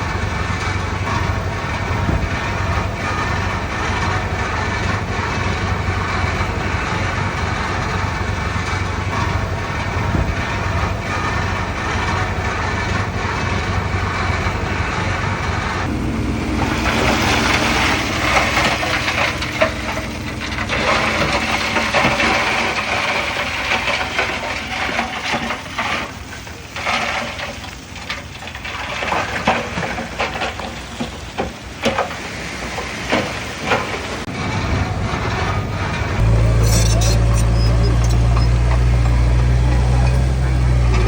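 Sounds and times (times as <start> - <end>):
bulldozer diesel engine under load: 0.0 - 41.0
soil and stones crunching: 0.0 - 41.0.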